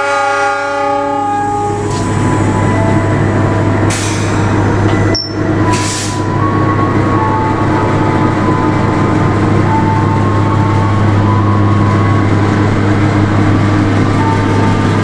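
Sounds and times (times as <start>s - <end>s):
locomotive engine drone: 0.0s - 15.0s
rail and running-gear noise: 0.0s - 15.0s.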